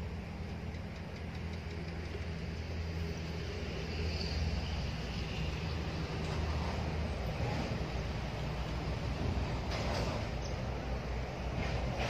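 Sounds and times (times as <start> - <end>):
engine droning hum: 0.0 - 12.0.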